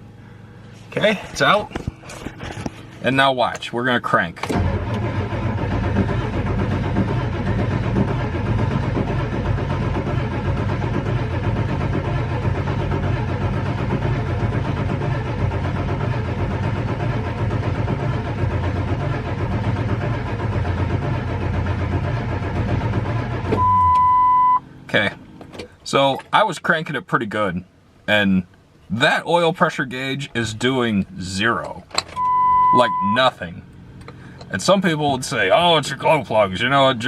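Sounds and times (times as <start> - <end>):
starter motor cranking diesel engine: 0.0 - 26.6, 29.7 - 37.0.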